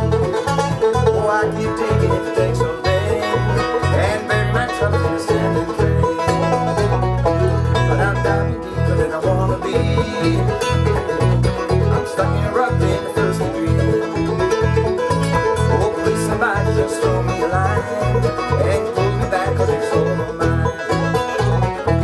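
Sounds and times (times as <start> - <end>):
acoustic guitar picking: 0.0 - 22.0
banjo picking: 0.0 - 22.0
electric bass guitar: 0.0 - 22.0
mandolin picking: 0.0 - 22.0.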